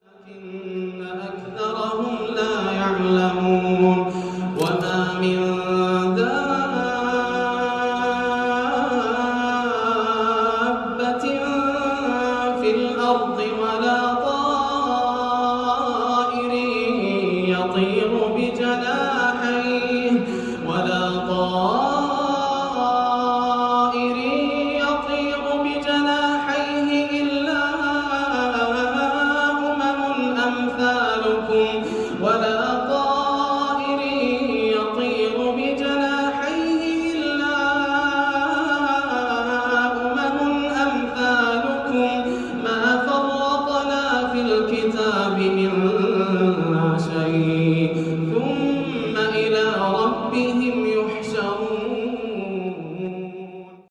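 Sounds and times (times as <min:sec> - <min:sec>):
person chanting verses: 0:00.0 - 0:53.9.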